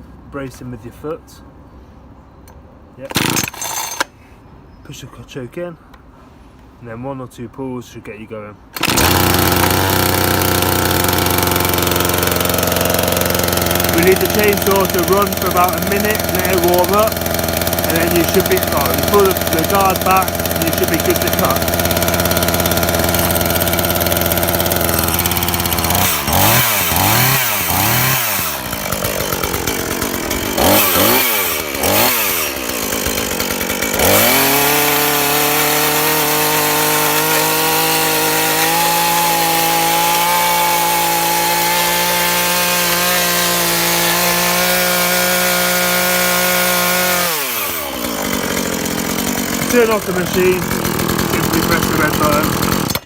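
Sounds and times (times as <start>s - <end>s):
chainsaw idling and revving: 3.1s - 4.1s, 8.8s - 53.0s.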